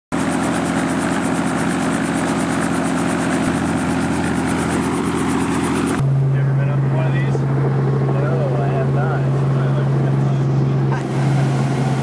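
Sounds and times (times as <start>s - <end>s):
helicopter engine drone: 0.1s - 12.0s
rotor blades beating: 0.1s - 12.0s.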